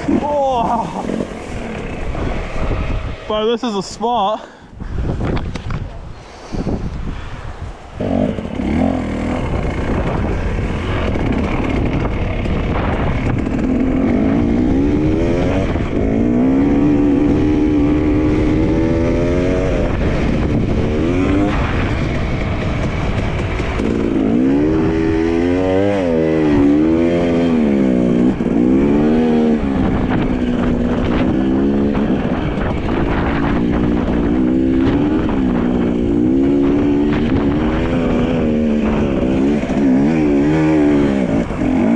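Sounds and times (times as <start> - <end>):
dirt bike engine revving: 0.0 - 4.2, 8.0 - 41.9.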